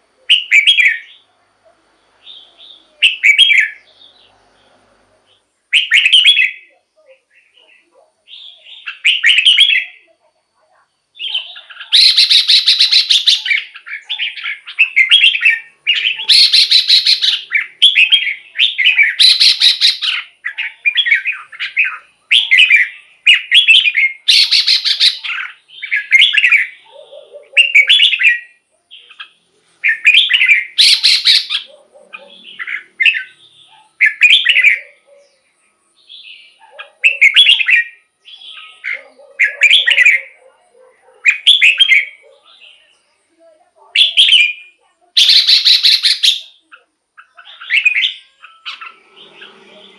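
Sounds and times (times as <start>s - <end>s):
bird singing warbled phrases: 0.0s - 1.4s, 2.0s - 49.9s.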